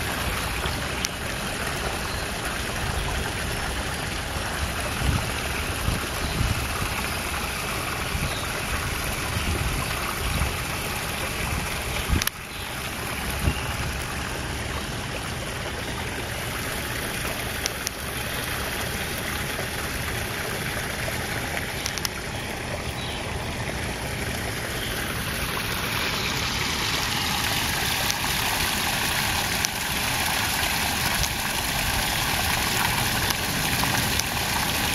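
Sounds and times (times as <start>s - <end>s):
waterfall splashing into pond: 0.0s - 34.9s.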